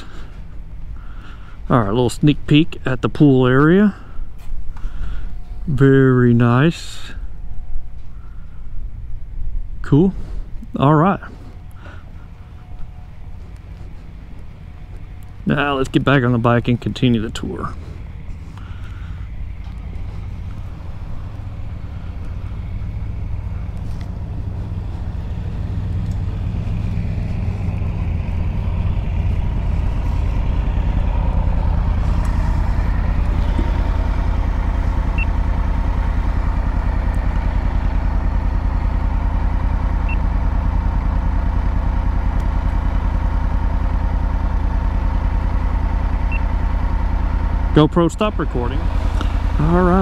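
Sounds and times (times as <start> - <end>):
motorcycle engine idling: 0.0 - 6.2, 7.0 - 50.0.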